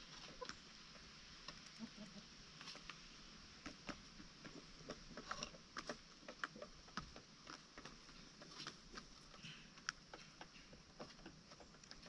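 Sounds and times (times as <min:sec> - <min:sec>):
chickens pecking: 0:00.0 - 0:12.0.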